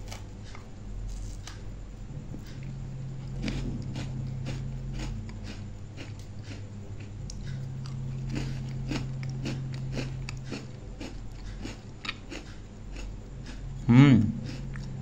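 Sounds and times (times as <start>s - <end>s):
steady low hum: 0.0s - 15.0s
person chewing biscuit: 2.4s - 15.0s.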